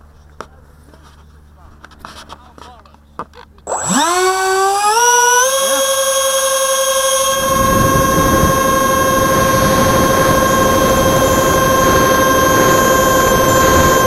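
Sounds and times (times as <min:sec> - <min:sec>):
electric ducted fans whining: 0:00.0 - 0:14.0.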